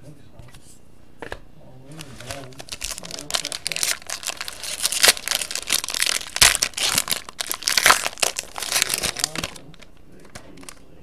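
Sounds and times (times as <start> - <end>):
foil wrapper crinkling and tearing: 1.9 - 10.8.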